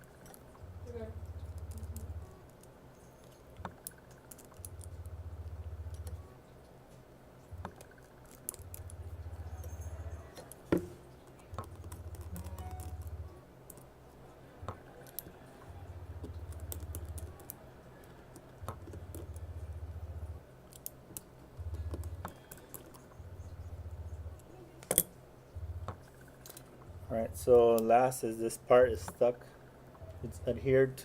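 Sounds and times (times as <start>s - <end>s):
low hum: 0.0s - 30.9s.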